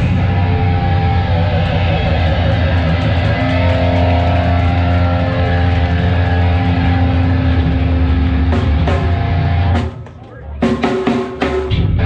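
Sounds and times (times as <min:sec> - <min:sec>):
bass guitar droning chord: 0:00.0 - 0:09.8
heavy low rumble: 0:00.0 - 0:10.8
distorted electric guitar: 0:00.0 - 0:12.0.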